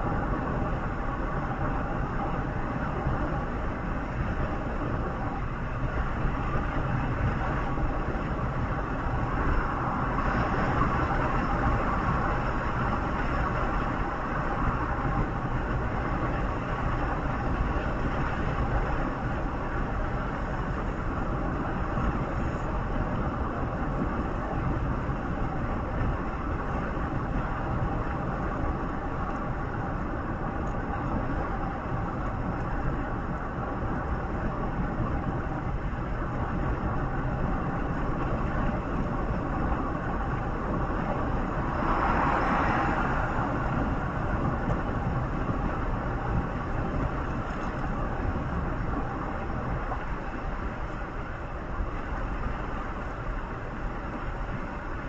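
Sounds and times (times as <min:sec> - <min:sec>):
vehicle engine and tyre rumble: 0:00.0 - 0:55.0.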